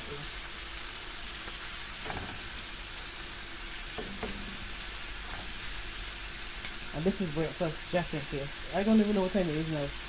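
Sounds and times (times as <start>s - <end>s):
fish sizzling in butter: 0.0s - 10.0s.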